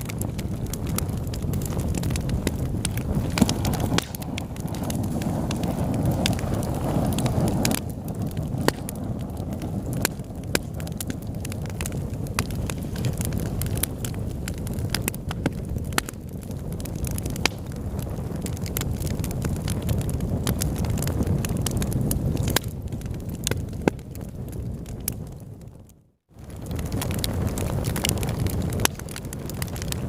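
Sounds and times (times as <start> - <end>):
fire crackling and popping: 0.0 - 30.0
low rumble of fire: 0.0 - 30.0.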